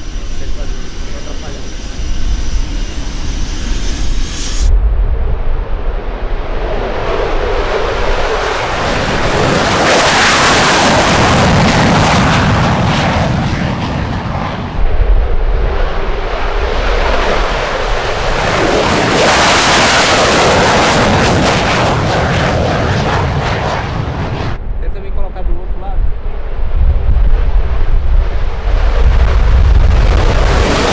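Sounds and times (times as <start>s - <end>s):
fighter jet engine roar: 0.0s - 30.9s.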